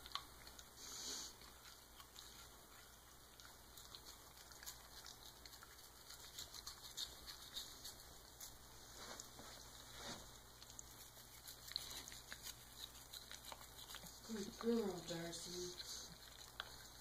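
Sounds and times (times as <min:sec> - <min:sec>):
toothbrush scrubbing teeth: 0:00.0 - 0:08.6, 0:10.3 - 0:17.0.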